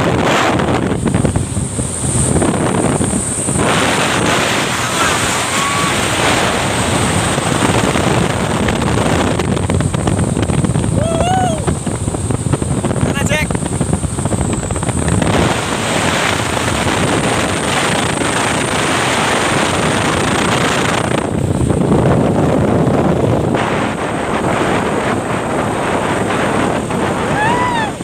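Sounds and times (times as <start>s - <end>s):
truck engine and road noise: 0.0s - 28.0s
wind buffeting microphone: 0.0s - 28.0s.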